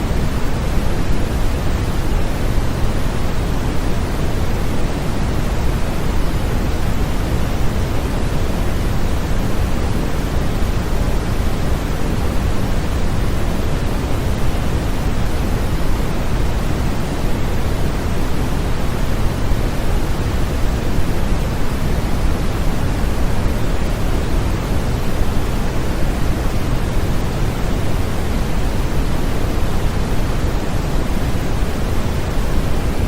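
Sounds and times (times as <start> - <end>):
steady white noise hiss: 0.0 - 33.0.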